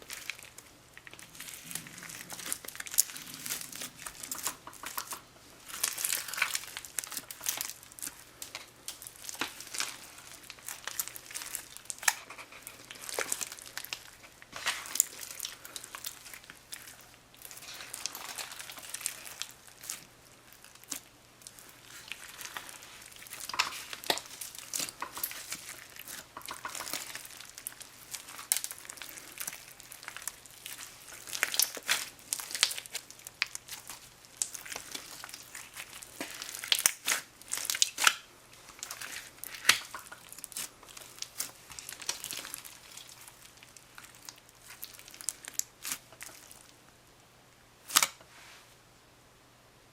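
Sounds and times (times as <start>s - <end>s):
crunchy slime crackling: 0.0s - 46.8s, 47.8s - 48.2s.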